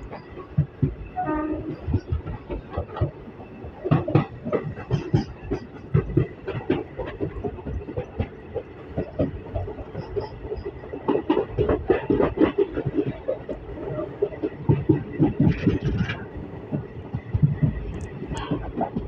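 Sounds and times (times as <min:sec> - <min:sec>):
wheel-on-rail rumble: 0:00.0 - 0:19.0
wheels knocking and rattling: 0:00.0 - 0:19.0.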